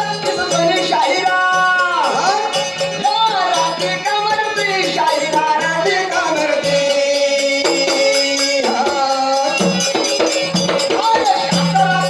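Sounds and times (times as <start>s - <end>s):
jingling percussion: 0.0s - 12.0s.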